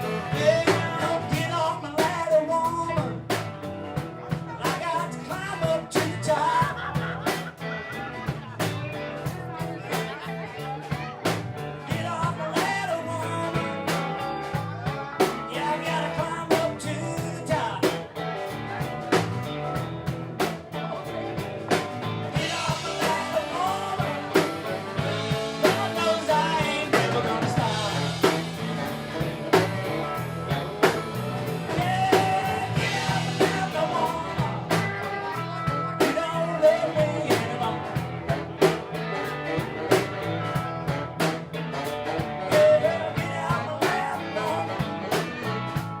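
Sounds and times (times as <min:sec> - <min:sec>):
bass guitar: 0:00.0 - 0:46.0
drum kit steady beat: 0:00.0 - 0:46.0
electric guitar: 0:00.0 - 0:46.0.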